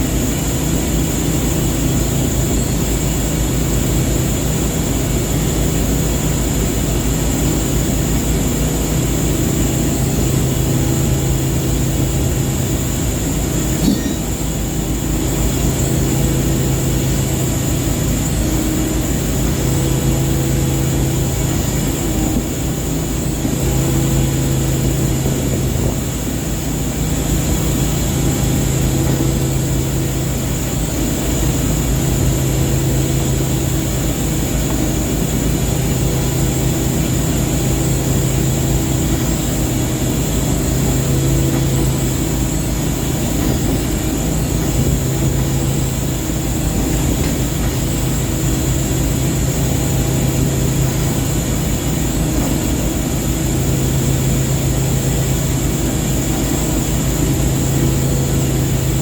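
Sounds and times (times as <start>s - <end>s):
ship engine droning: 0.0s - 59.0s
thin high whine: 0.0s - 59.0s.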